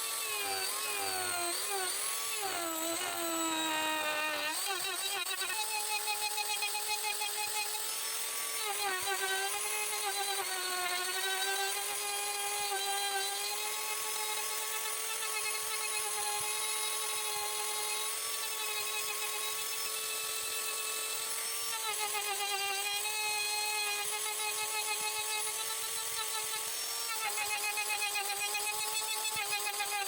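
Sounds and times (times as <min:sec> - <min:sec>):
electric power tool motor whine: 0:00.0 - 0:30.0.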